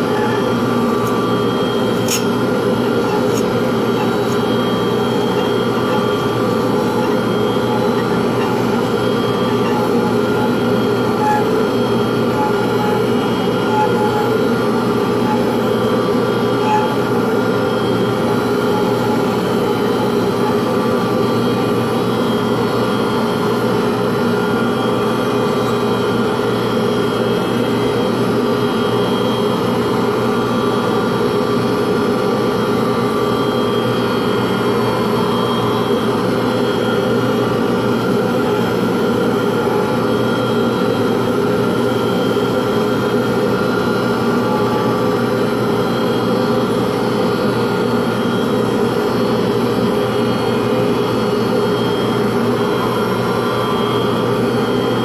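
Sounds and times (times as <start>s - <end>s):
electric motor humming: 0.0s - 28.4s, 32.6s - 55.0s.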